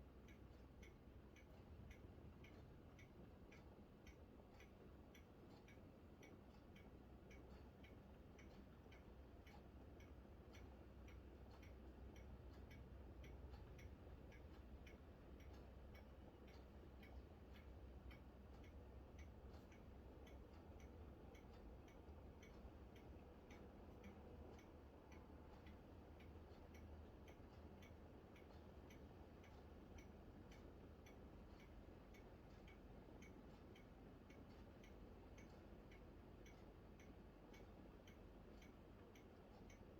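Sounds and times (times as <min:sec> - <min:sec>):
faint even ticking: 0:00.1 - 0:39.9.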